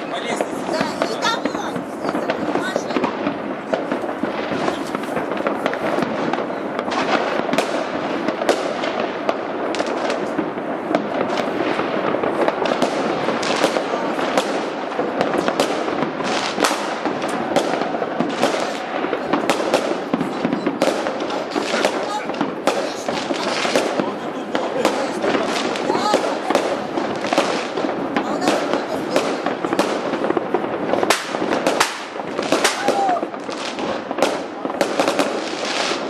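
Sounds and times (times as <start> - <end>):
fireworks cracking and popping: 0.0 - 36.0.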